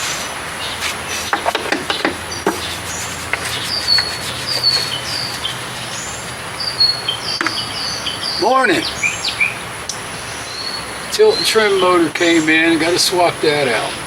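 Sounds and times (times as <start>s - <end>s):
small birds chirping: 0.6s - 14.0s.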